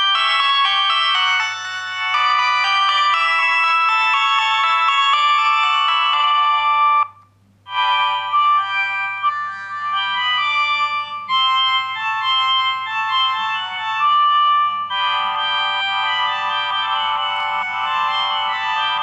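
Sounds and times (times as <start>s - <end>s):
phone electronic ringtone melody: 0.0s - 19.0s.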